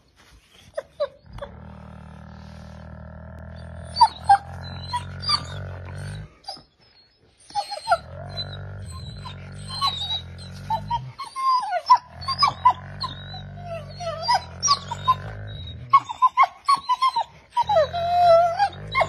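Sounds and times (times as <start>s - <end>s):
wolf pup yelping and whining: 0.3s - 2.8s, 3.4s - 19.0s.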